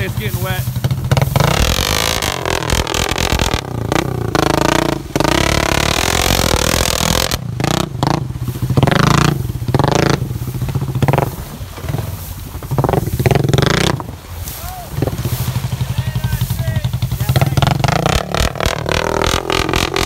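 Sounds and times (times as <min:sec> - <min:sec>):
atv engine revving: 0:00.0 - 0:20.0
water splashing and churning: 0:00.0 - 0:20.0.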